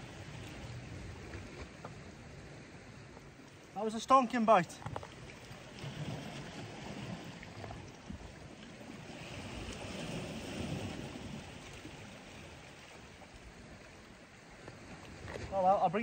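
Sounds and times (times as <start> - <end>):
sea water lapping on rocks: 0.0 - 16.0.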